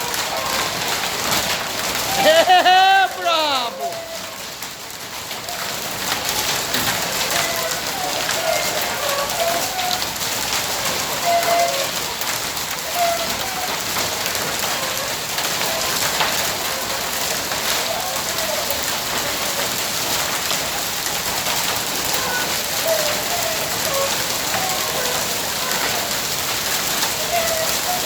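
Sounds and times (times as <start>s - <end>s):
hail and heavy rain falling: 0.0s - 28.0s.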